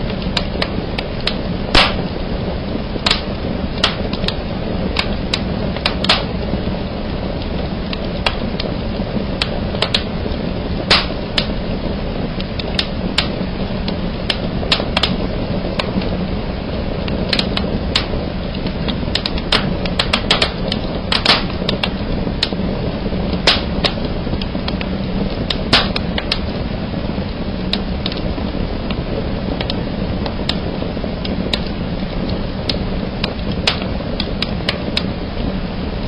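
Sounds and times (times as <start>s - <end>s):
fire pops: 0.0s - 36.0s
low rush of flames: 0.0s - 36.0s
wood fire crackling: 0.0s - 36.0s.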